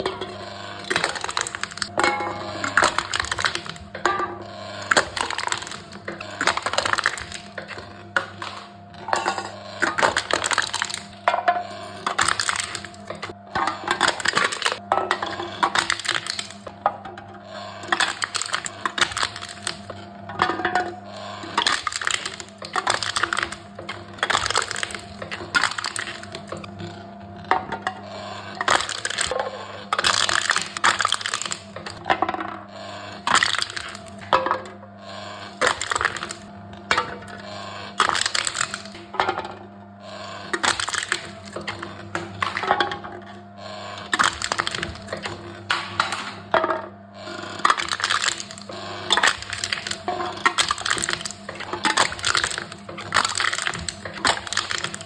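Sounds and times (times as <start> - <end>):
machine crushing drink cans: 0.0 - 55.0.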